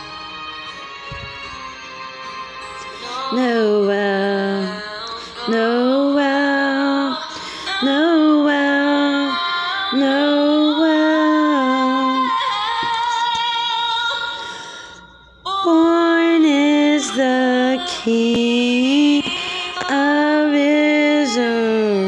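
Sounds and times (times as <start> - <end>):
woman singing slow melody: 0.0 - 22.0.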